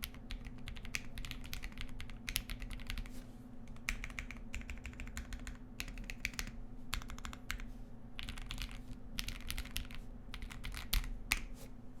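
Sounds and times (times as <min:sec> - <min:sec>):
mechanical keyboard typing: 0:00.0 - 0:03.1, 0:03.8 - 0:07.6, 0:08.2 - 0:11.4.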